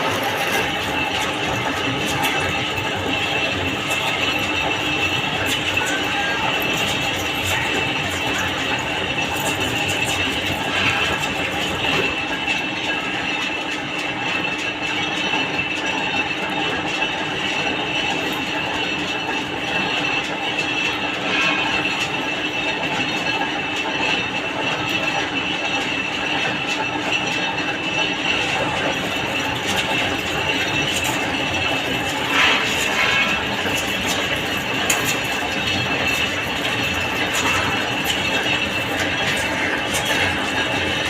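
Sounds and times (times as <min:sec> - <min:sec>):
metal lathe cutting: 0:00.0 - 0:13.7, 0:14.9 - 0:41.0
constant high-pitched tone: 0:00.0 - 0:41.0.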